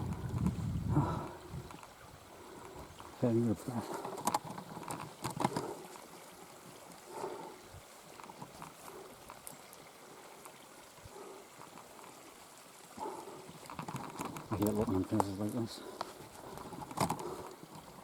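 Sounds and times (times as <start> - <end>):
faint running water of stream: 0.0 - 18.0.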